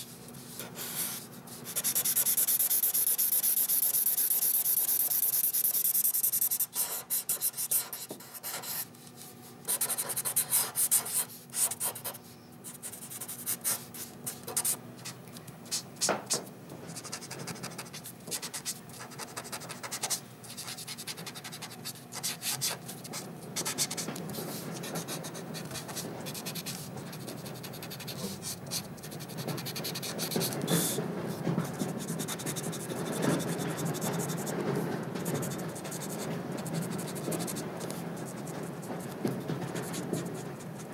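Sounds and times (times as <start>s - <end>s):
marker pens scratching paper: 0.4s - 40.9s.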